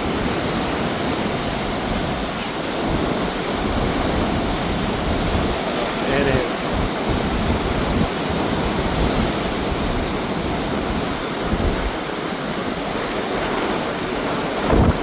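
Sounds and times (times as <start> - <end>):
river water rushing: 0.0 - 15.0
wind buffeting the microphone: 0.0 - 15.0.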